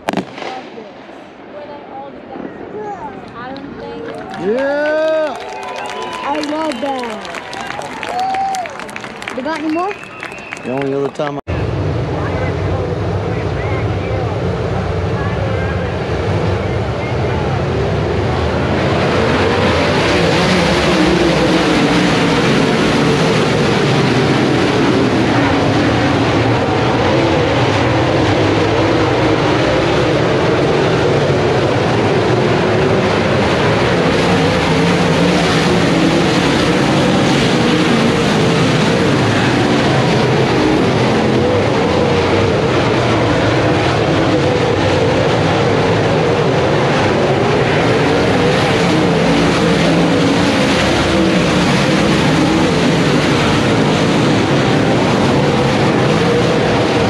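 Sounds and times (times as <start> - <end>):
race car engines roaring: 0.0 - 57.0.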